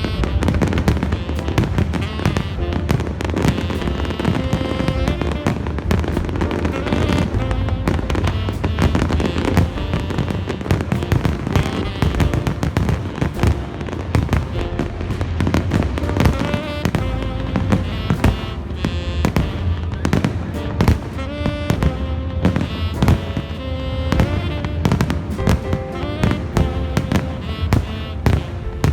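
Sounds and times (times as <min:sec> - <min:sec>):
fireworks crackling and banging: 0:00.0 - 0:28.9
music: 0:00.0 - 0:28.9.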